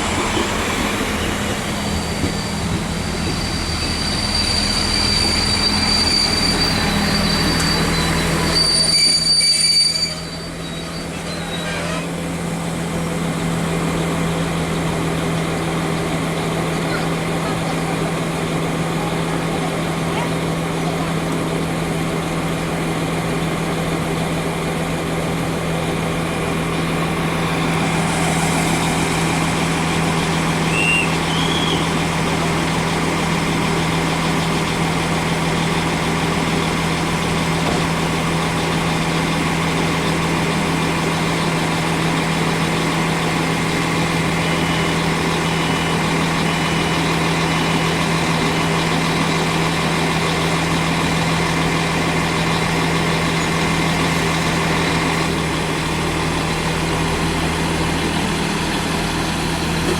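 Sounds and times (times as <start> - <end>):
diesel train engine idling: 0.0 - 59.9.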